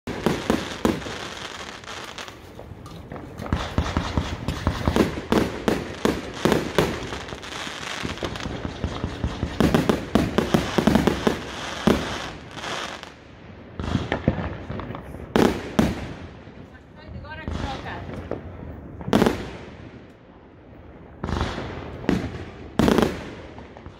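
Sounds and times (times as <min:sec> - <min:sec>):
fireworks bangs and crackling pops: 0:00.0 - 0:23.9.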